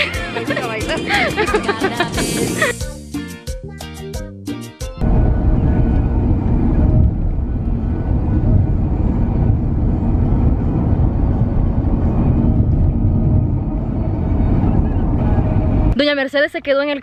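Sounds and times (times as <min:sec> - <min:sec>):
car road and wind noise: 0:00.0 - 0:02.8, 0:05.0 - 0:17.0.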